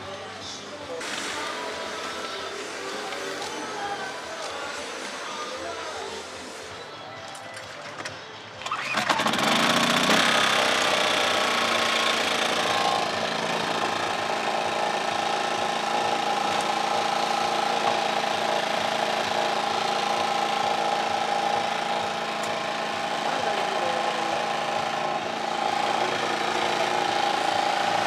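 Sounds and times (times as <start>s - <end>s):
portable generator running: 0.0s - 6.9s, 8.6s - 28.0s.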